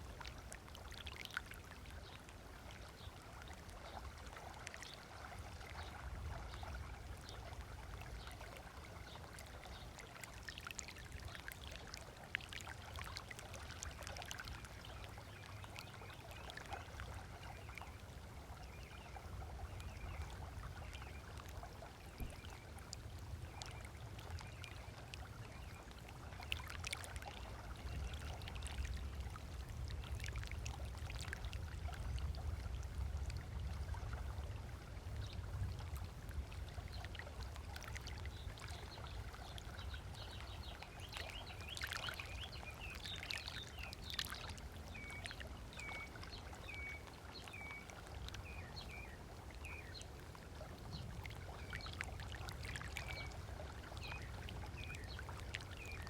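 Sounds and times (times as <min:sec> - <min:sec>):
small waves lapping on sand: 0:00.0 - 0:56.0.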